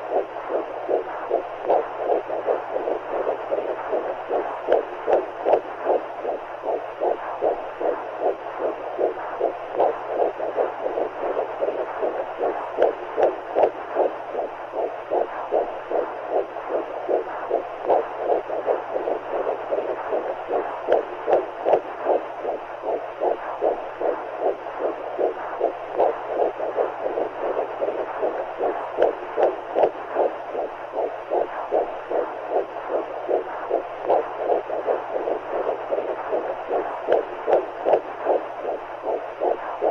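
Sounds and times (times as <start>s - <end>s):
faint low hum: 0.0s - 39.9s
heartbeat: 0.0s - 39.9s.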